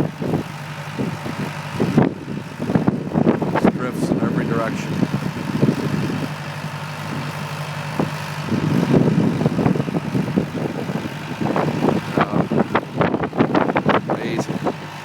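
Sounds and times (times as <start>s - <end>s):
uneven rumbling noise: 0.0s - 15.0s
vehicle engine idling: 0.0s - 15.0s.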